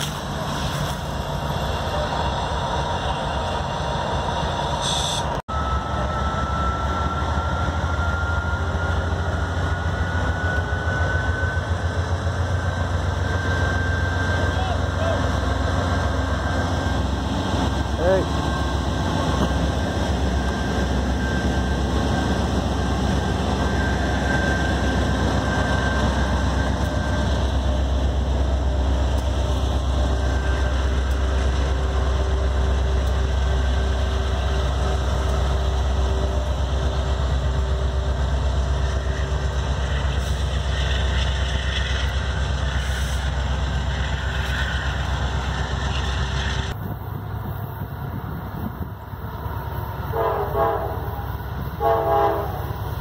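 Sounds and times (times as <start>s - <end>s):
diesel locomotives rumbling past: 0.0s - 53.0s.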